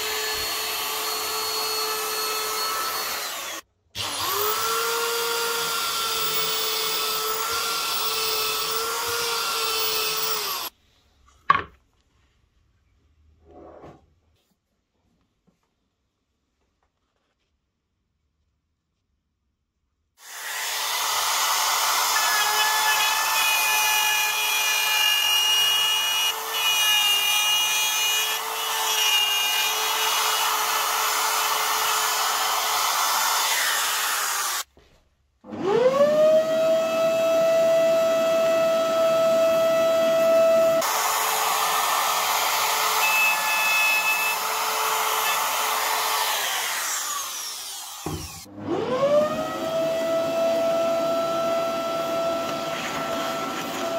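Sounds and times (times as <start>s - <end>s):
router cutting wood: 0.0s - 10.7s, 20.2s - 34.7s, 35.5s - 53.9s.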